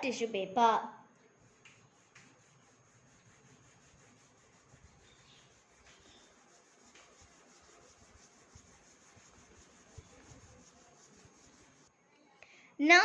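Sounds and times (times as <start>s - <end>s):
tissue paper rubbing on paper: 1.2s - 11.9s.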